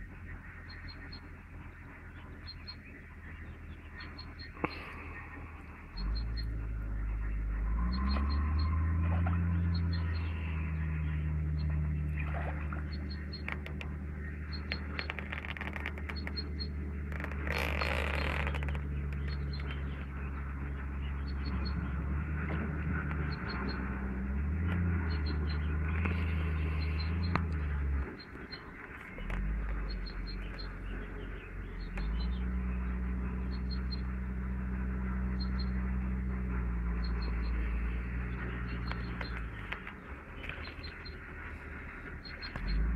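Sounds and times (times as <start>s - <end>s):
low engine hum: 0.0s - 42.9s.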